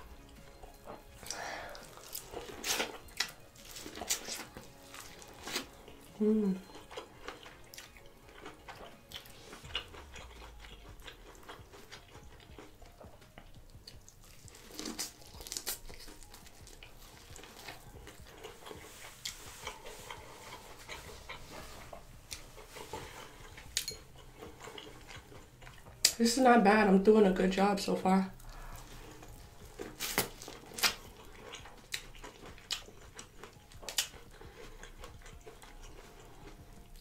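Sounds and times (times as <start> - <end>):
person chewing corn: 0.0 - 26.2, 28.3 - 37.0.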